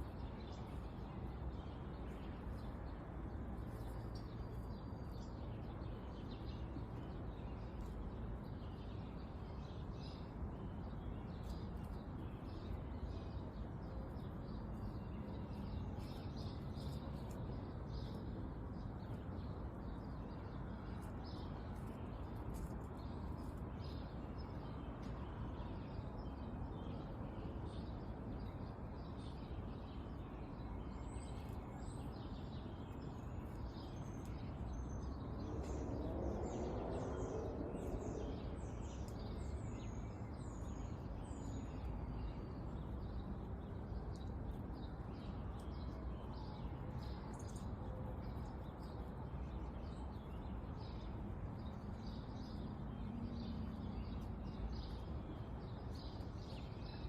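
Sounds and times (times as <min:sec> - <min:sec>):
small songbirds chirping: 0:00.0 - 0:57.0
steady outdoor hiss: 0:00.0 - 0:57.0.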